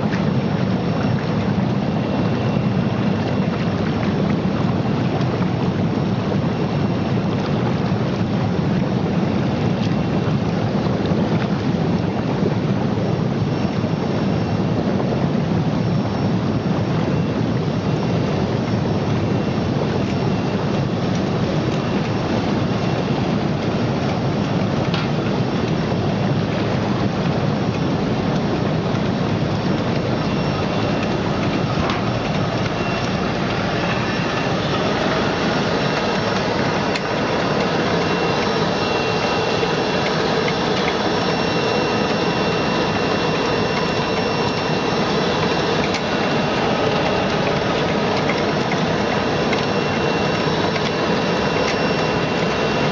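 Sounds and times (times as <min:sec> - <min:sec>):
motor-driven roller whine: 0:00.0 - 0:52.9
water churning and spraying: 0:00.0 - 0:52.9.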